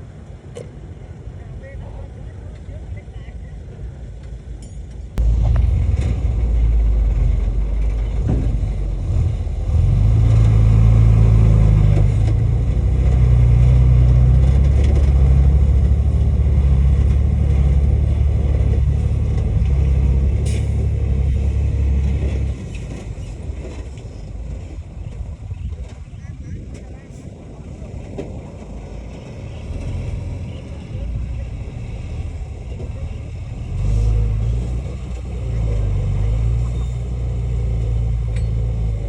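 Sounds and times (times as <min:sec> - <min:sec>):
heavy diesel engine rumbling: 0:00.0 - 0:39.0.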